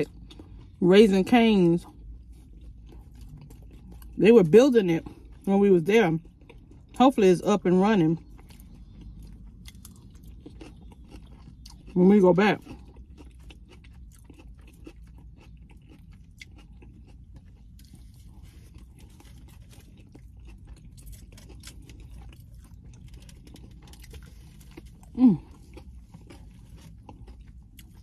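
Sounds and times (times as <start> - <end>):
person crunching salad: 0.0 - 28.0.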